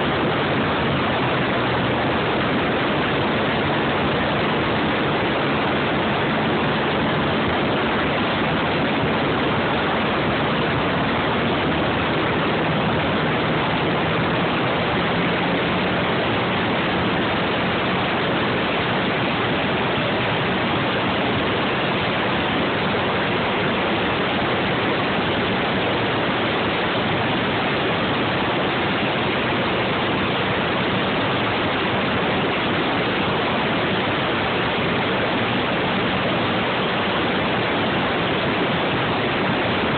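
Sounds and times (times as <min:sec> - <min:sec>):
quad engine droning: 0:00.0 - 0:39.9.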